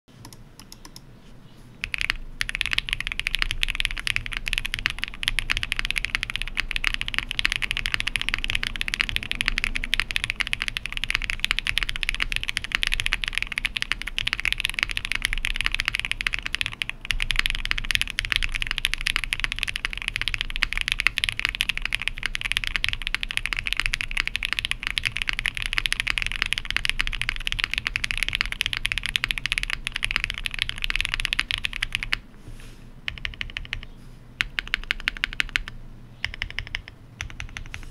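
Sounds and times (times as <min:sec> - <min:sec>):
mechanical keyboard typing clacks: 0:01.8 - 0:32.2, 0:33.1 - 0:37.9.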